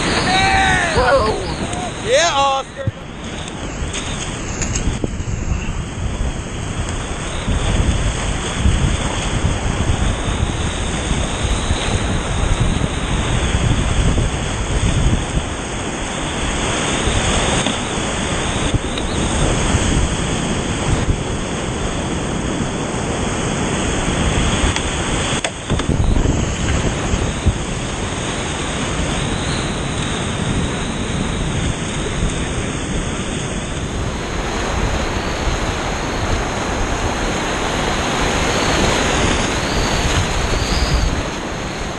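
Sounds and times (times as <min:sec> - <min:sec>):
whitewater rushing: 0:00.0 - 0:04.4, 0:05.9 - 0:41.9.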